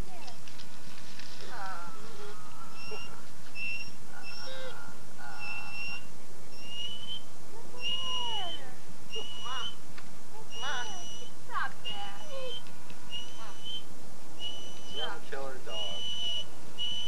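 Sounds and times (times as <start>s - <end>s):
animal giving whistle-like cries: 2.1s - 9.8s, 10.4s - 17.0s.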